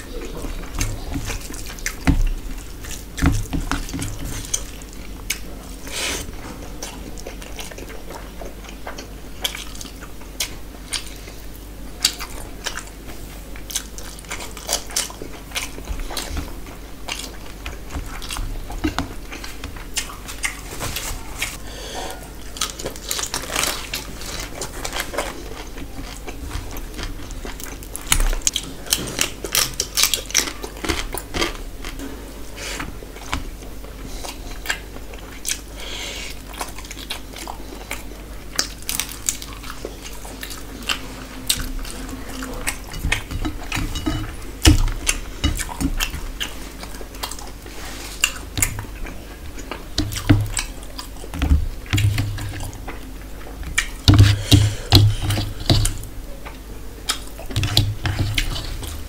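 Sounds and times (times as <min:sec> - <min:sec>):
person chewing and lip-smacking: 0:00.0 - 0:20.6, 0:22.4 - 0:32.2, 0:32.8 - 0:59.0.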